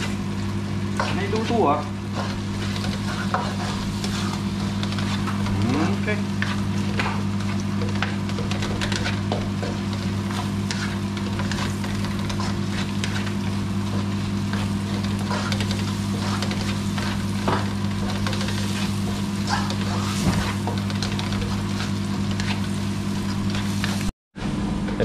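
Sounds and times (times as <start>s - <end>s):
onions sizzling in oil: 0.0s - 24.1s
spatula scraping a wok: 0.9s - 24.1s.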